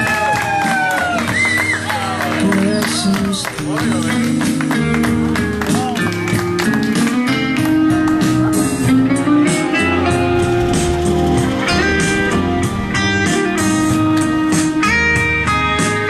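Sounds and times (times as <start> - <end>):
steady bass line: 0.0 - 16.0
plucked guitar notes: 1.0 - 16.0.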